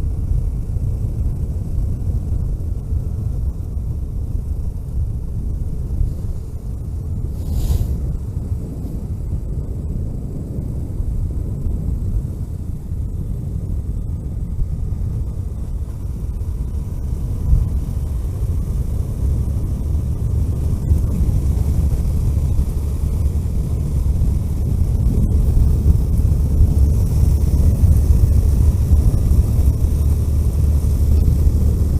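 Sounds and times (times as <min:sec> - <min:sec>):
car engine and tyres rumbling: 0:00.0 - 0:31.9.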